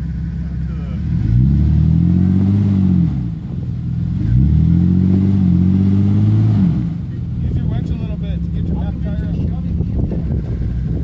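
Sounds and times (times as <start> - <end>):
engine revving under load: 0.6 - 11.0.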